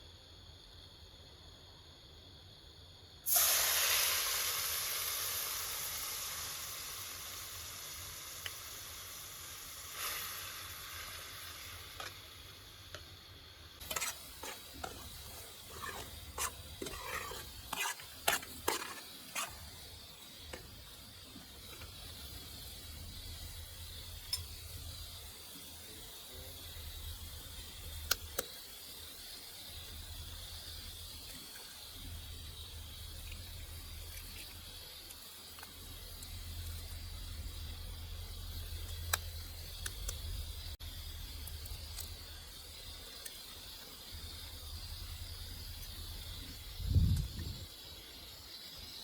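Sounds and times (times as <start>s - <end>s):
food sizzling in hot oil: 3.2s - 49.0s.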